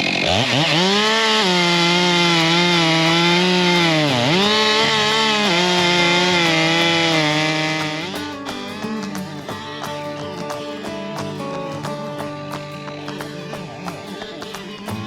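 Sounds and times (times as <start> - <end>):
chainsaw cutting a log: 0.0 - 15.0.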